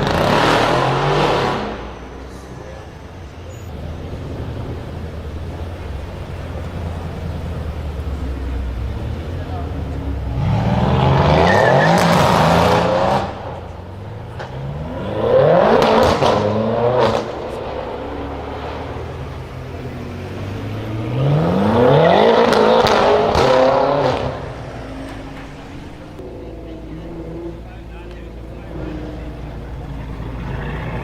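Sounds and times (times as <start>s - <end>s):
car engine revving: 0.0s - 31.0s
exhaust cracks: 3.7s - 31.0s.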